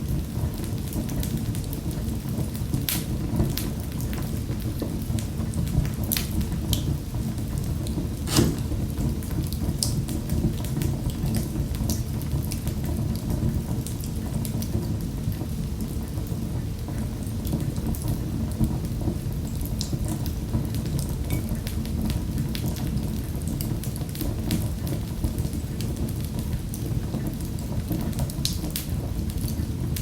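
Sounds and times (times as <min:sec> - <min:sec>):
fire crackling in a fireplace: 0:00.0 - 0:30.0.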